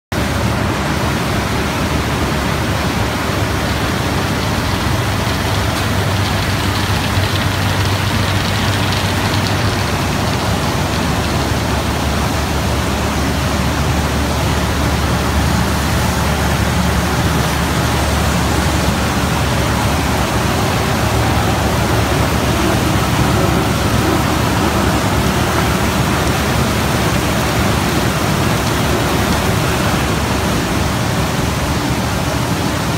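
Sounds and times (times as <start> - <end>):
water rushing through channels: 0.2 - 32.9
pulping machine running: 3.0 - 32.6.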